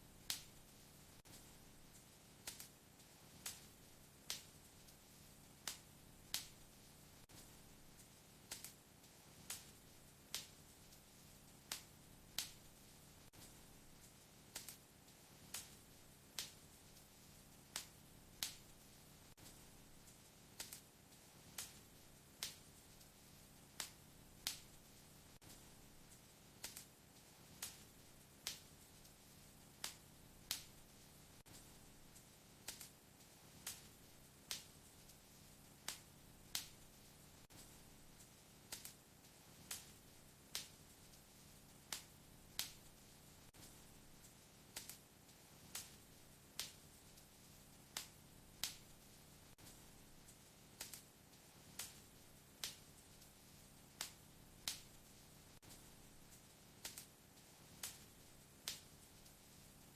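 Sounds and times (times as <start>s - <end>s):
faint low background: 0.0s - 59.9s
wood fire crackling: 0.0s - 59.9s.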